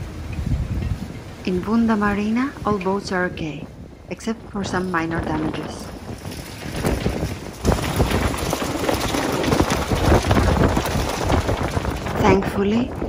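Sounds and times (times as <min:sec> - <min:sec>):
gusty wind buffeting microphone: 0:00.0 - 0:13.0
wind blowing through trees: 0:00.0 - 0:13.0.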